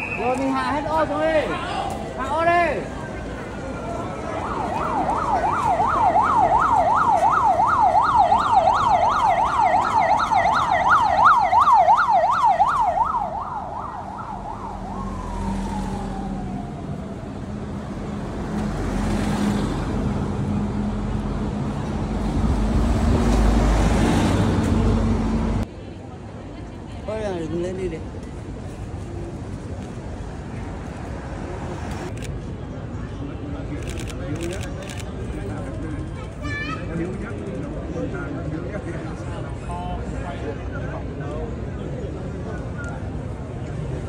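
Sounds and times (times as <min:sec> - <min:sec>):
bus engines droning: 0:00.0 - 0:44.0.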